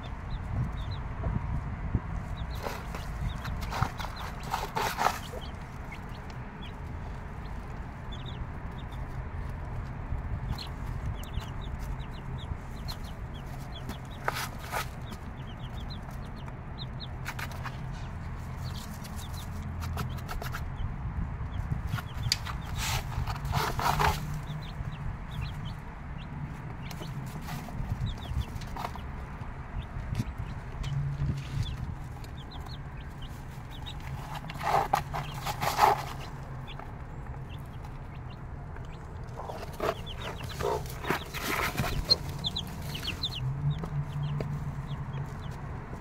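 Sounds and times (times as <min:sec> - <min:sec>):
chicks peeping: 0:00.0 - 0:46.0
hen clucking: 0:02.3 - 0:09.2, 0:10.4 - 0:20.8, 0:21.9 - 0:46.0.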